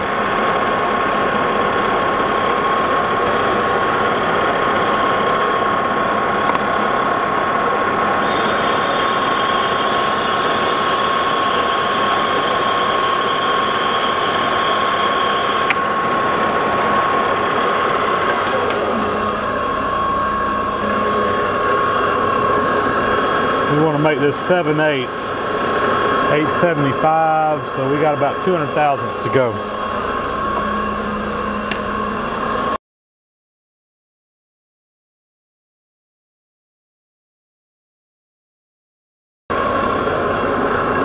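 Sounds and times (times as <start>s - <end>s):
lathe running with whine: 0.0s - 32.8s, 39.5s - 41.0s.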